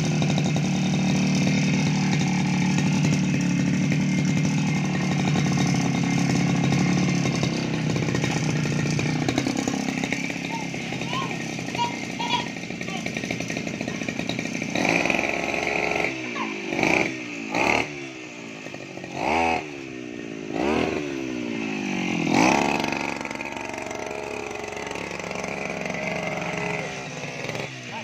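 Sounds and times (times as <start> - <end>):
brush cutter engine revving: 0.0 - 28.0.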